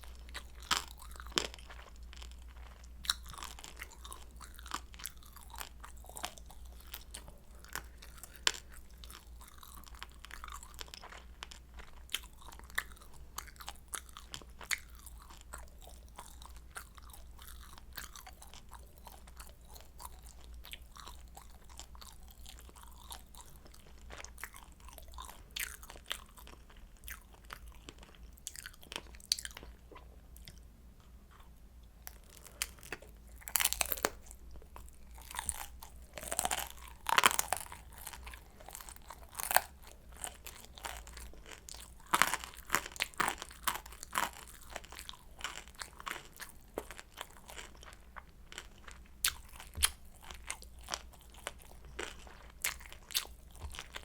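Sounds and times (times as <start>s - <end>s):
crunchy chewing of dumplings: 0.0s - 54.0s.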